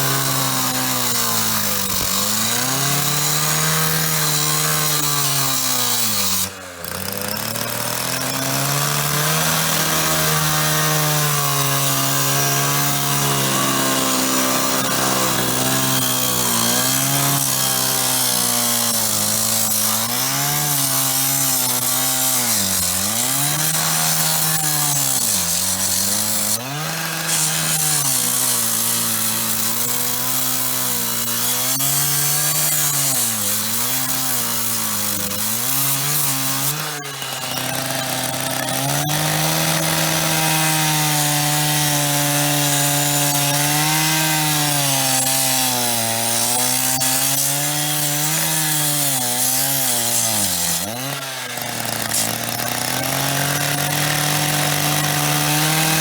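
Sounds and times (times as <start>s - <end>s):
power cutter motor: 0.0s - 56.0s.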